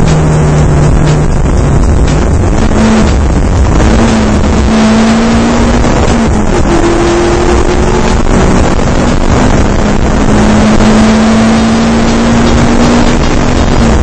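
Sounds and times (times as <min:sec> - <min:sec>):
race car engine running hard: 0:00.0 - 0:14.0
wind and road noise: 0:00.0 - 0:14.0.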